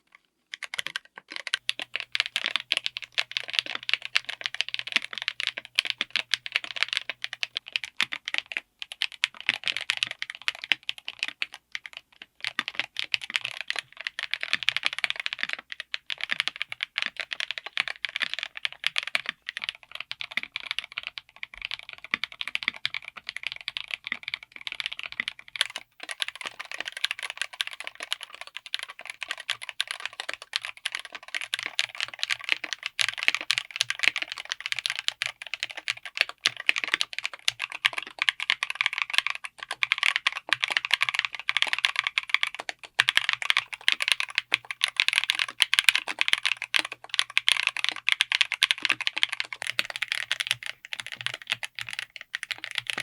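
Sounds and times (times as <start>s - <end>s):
fast typing on mechanical keyboard: 0.5s - 53.0s.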